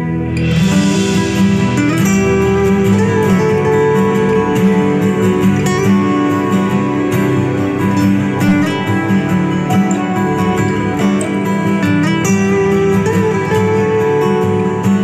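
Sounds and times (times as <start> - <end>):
strummed guitar instrumental music: 0.0 - 15.0.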